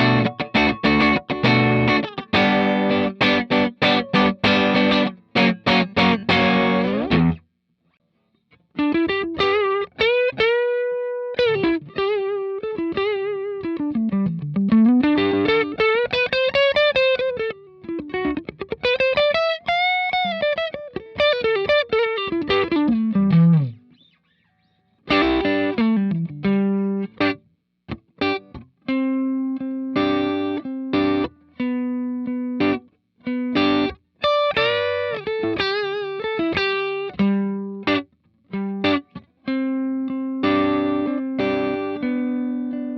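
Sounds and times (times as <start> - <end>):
electric guitar playing: 0.0 - 7.4, 8.6 - 24.1, 25.0 - 42.9.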